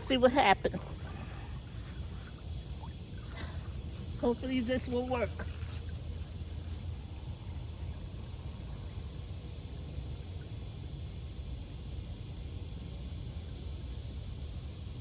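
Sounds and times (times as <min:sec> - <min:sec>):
constant low rumble: 0:00.0 - 0:15.0
insect chorus trilling: 0:00.0 - 0:15.0.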